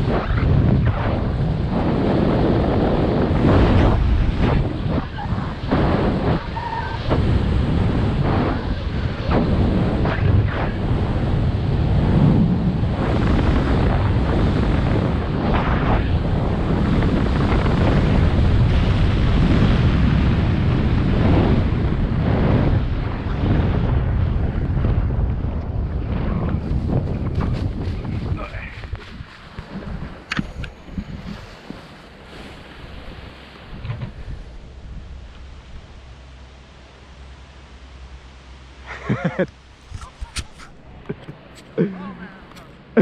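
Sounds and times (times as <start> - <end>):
wind rushing on microphone: 0.0 - 37.3, 39.0 - 43.0.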